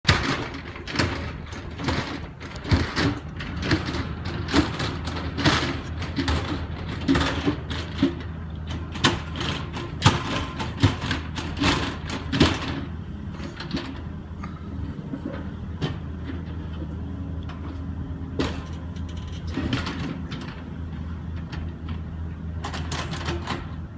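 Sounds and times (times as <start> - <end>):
excavator bucket clanking and scraping: 0.1 - 23.9
excavator engine humming under load: 0.1 - 23.9.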